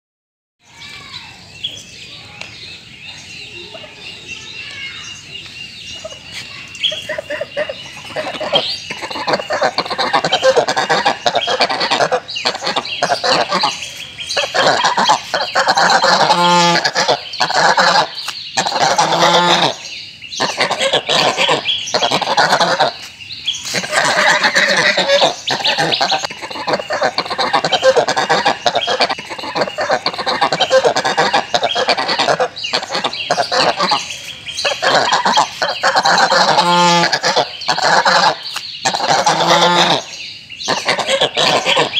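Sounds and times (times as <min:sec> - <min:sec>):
geese honking: 0:06.0 - 0:41.9.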